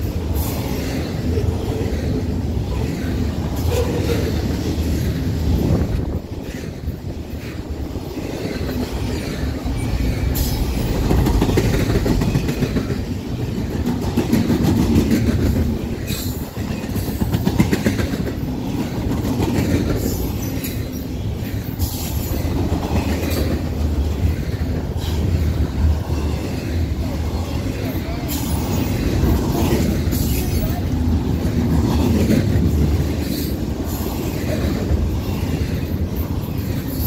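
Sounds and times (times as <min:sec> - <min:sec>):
steel wheels rumbling on rail: 0:00.0 - 0:37.0
wheels clicking over rail joints: 0:00.0 - 0:37.0.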